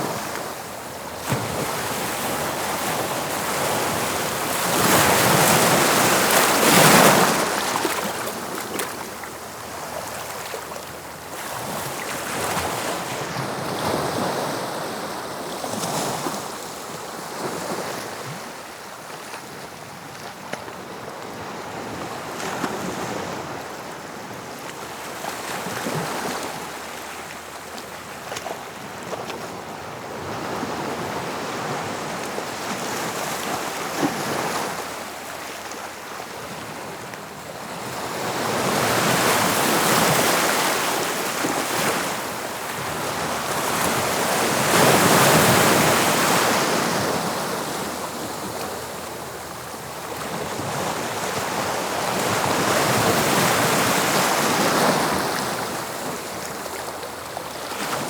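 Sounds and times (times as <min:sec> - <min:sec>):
sea waves breaking on shore: 0:00.0 - 0:18.6, 0:21.8 - 0:58.0.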